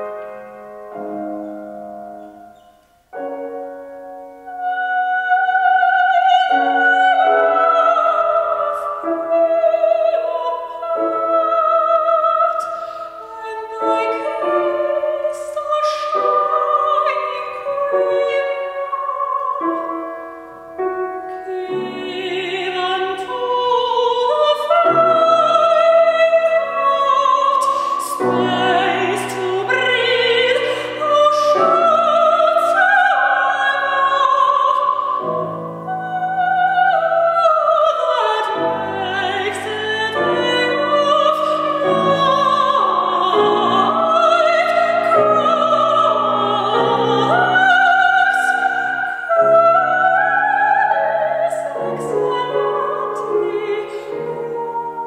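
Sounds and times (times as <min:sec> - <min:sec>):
grand piano: 0:00.0 - 0:55.0
woman singing operatically: 0:04.4 - 0:20.6, 0:21.2 - 0:55.0.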